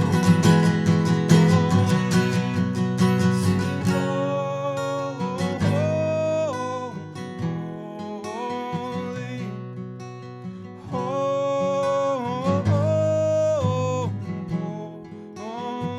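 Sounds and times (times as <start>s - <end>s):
strummed acoustic guitar: 0.0s - 15.9s.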